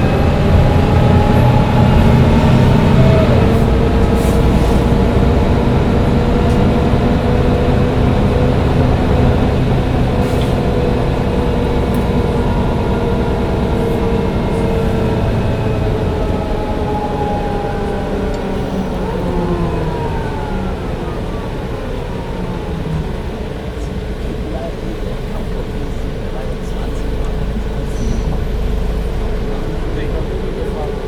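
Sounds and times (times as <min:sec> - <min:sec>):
bus engine rumbling: 0:00.0 - 0:31.0.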